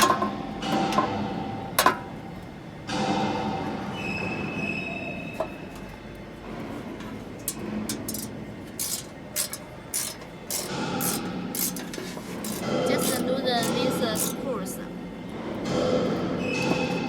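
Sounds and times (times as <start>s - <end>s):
workshop machinery noise: 0.0s - 17.0s.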